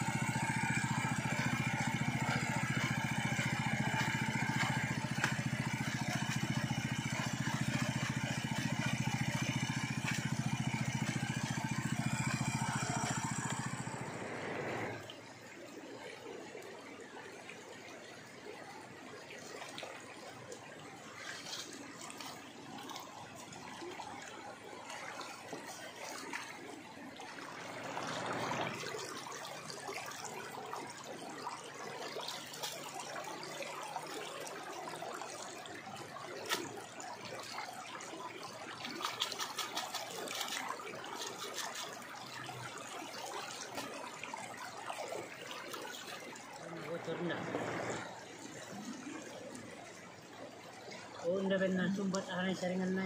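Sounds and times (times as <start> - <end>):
sharp water splashes: 0.0 - 15.1, 21.0 - 52.9
water sloshing and trickling: 0.0 - 53.0.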